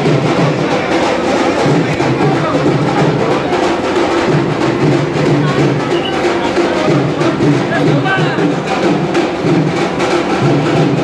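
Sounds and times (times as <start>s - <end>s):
music with drums and percussion: 0.0s - 11.0s.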